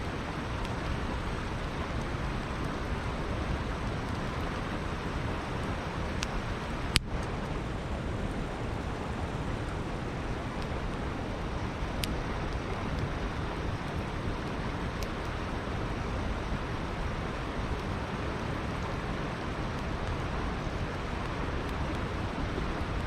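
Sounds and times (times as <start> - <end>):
campfire crackling: 0.0 - 23.0
river rushing: 0.0 - 23.0.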